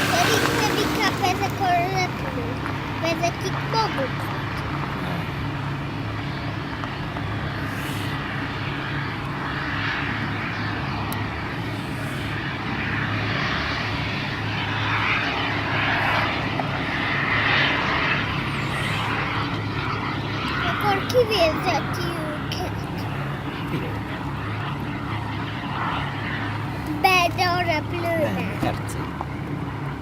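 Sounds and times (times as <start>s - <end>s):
model airplane engine drone: 0.0s - 30.0s.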